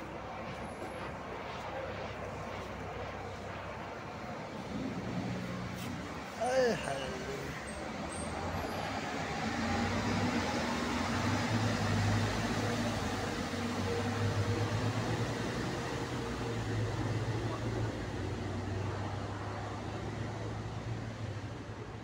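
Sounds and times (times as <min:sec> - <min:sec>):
bus engine hum: 0:00.0 - 0:22.0.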